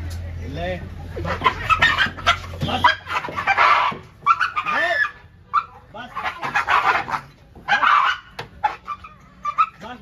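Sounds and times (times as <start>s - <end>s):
dog yelping and crying: 1.2s - 9.8s.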